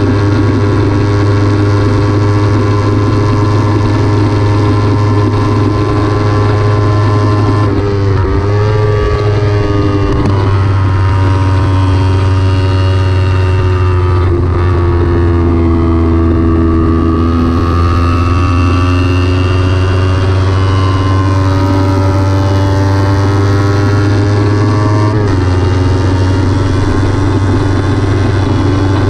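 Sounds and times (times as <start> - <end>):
motorcycle engine at speed: 0.0 - 29.0
wind rumble on microphone: 0.0 - 29.0.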